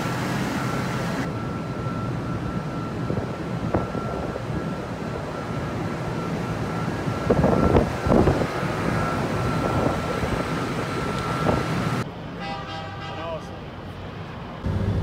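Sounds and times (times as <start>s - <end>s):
low machinery drone: 0.0s - 15.0s.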